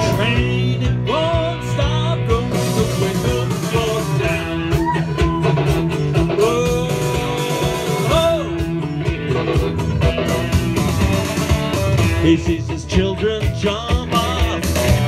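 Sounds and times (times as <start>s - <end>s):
drums keeping a steady beat: 0.0s - 15.0s
guitar: 0.0s - 15.0s
rock band playing live: 0.0s - 15.0s.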